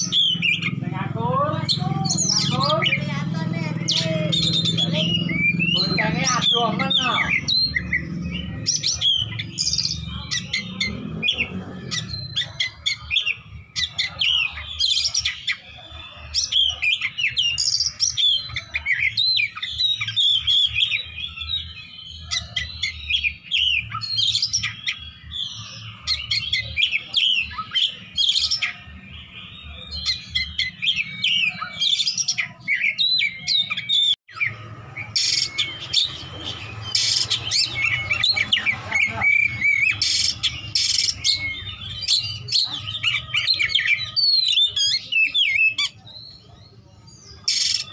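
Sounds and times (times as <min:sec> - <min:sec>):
bird singing chirps and trills: 0:00.0 - 0:47.9.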